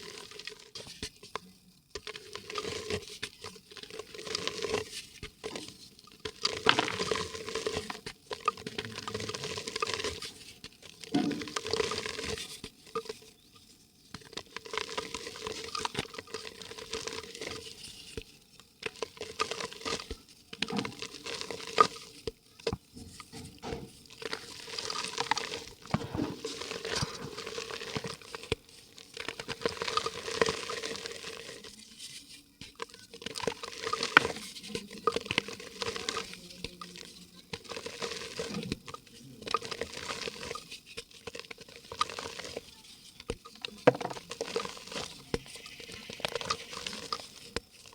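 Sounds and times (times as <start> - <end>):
mud crackling and fizzing: 0.0 - 47.9.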